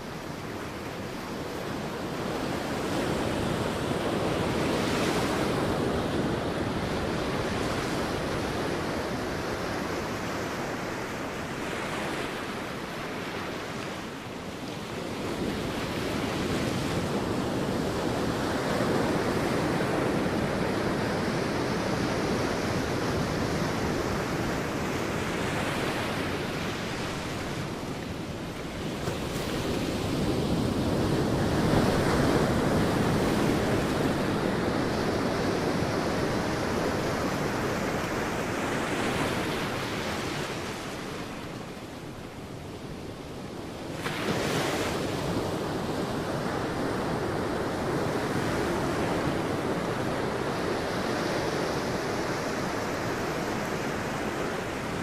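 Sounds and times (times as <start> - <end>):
sea waves breaking on beach: 0.0 - 55.0
wind: 0.0 - 55.0.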